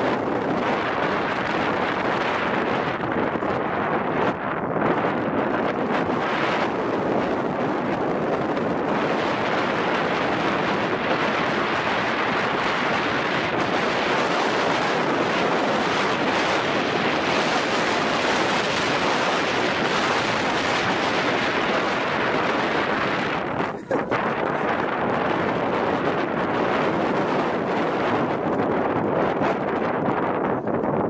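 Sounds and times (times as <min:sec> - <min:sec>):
coaster sled running on steel rails: 0:00.0 - 0:31.0
wind on microphone: 0:00.0 - 0:31.0.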